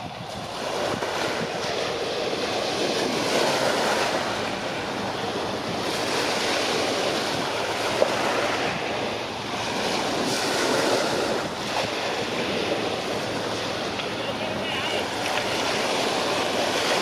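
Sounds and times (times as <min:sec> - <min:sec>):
sea waves washing and splashing: 0:00.0 - 0:17.0
wind gusting over microphone: 0:00.0 - 0:17.0.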